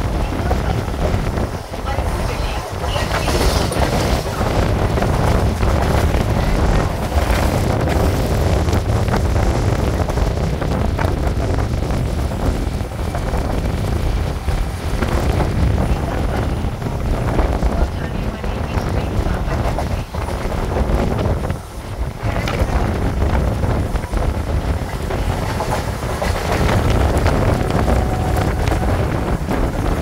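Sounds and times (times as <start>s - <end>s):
electric train rumbling: 0.0s - 30.0s
wind buffeting microphone: 0.0s - 30.0s.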